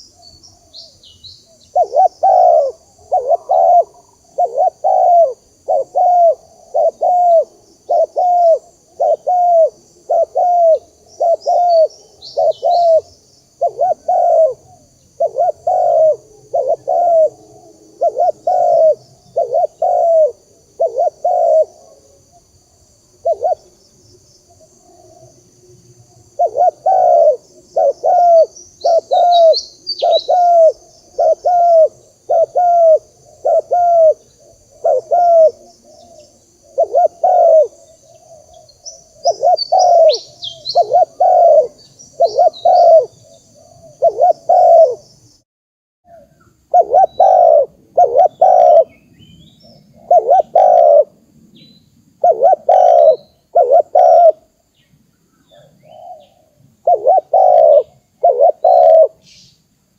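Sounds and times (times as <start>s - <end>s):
small bird chirps: 0.0s - 17.3s, 26.4s - 45.4s, 46.1s - 59.7s
dove cooing: 0.0s - 22.4s, 23.2s - 23.8s, 24.4s - 25.5s, 26.1s - 45.1s, 46.1s - 49.0s, 49.6s - 51.2s, 52.2s - 54.5s, 55.5s - 59.4s.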